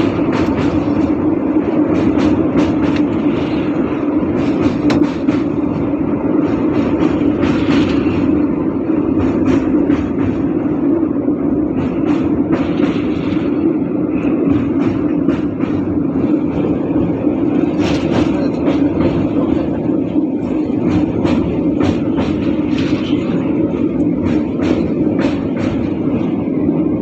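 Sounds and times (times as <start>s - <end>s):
train rumbling over bridge: 0.0s - 27.0s.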